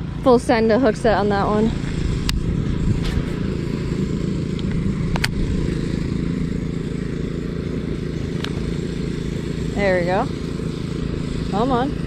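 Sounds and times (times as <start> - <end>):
distant lawn mower engine: 0.0 - 12.0.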